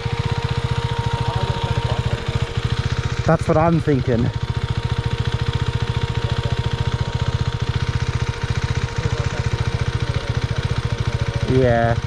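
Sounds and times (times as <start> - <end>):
motorcycle engine idling: 0.0 - 12.0
thin steady whine: 0.0 - 12.0.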